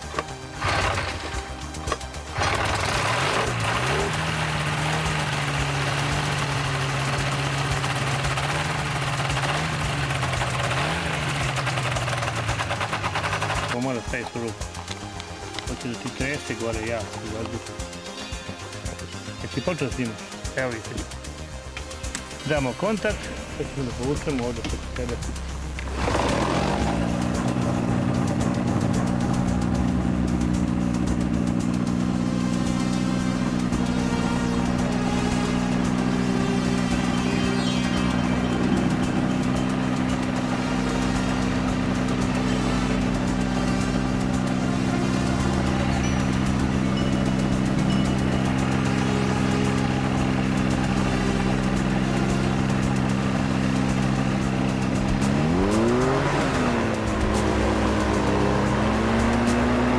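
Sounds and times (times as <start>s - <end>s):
propeller engine idling drone: 0.0s - 59.9s.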